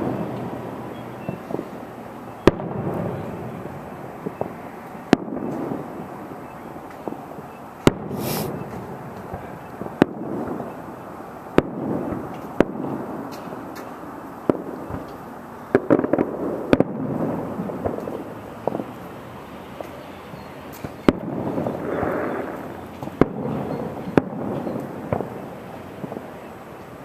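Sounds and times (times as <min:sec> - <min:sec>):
distant fireworks bursting: 0:00.0 - 0:27.0.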